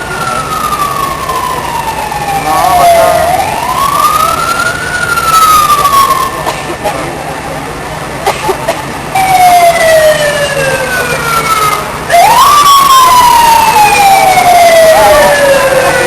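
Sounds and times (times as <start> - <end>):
fire engine siren wailing: 0.0 - 6.5, 9.0 - 16.0.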